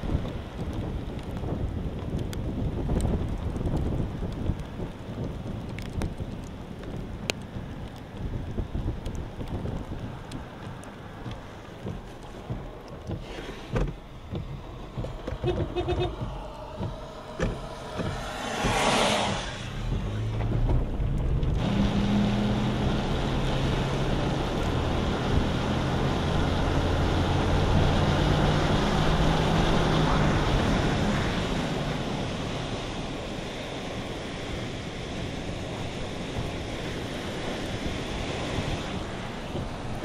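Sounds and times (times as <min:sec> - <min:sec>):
wind roaring through trees: 0:00.0 - 0:40.0
vehicle engine low hum: 0:00.1 - 0:40.0.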